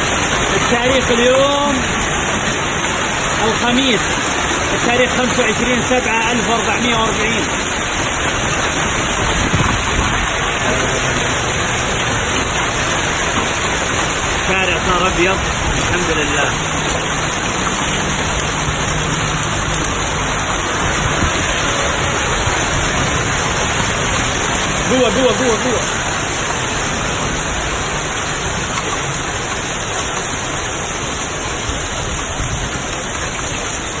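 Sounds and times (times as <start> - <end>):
hailstones striking the ground: 0.0 - 34.0.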